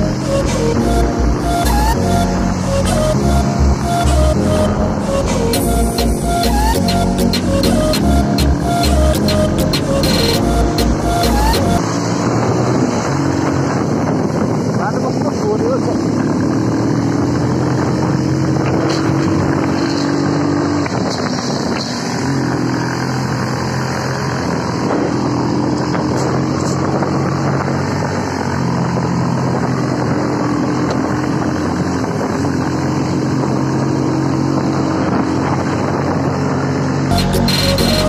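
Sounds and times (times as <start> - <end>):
wind and road noise: 0.0 - 38.0.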